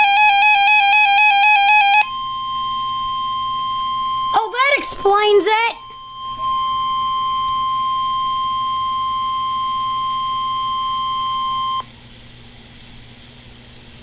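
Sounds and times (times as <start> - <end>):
low hum and faint hiss: 2.0 - 14.0.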